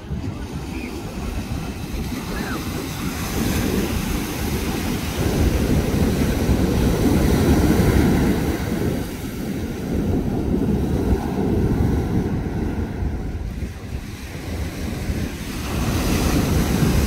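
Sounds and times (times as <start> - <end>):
small waves breaking on a beach: 0.0 - 17.0
wind buffeting the microphone: 0.0 - 17.0.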